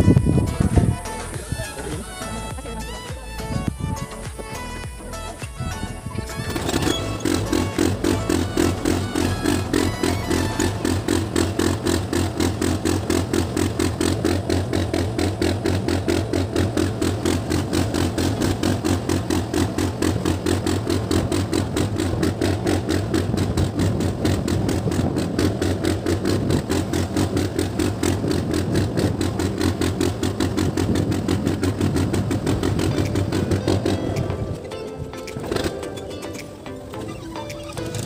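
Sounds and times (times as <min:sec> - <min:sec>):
ferry engine chugging: 0:00.0 - 0:38.0.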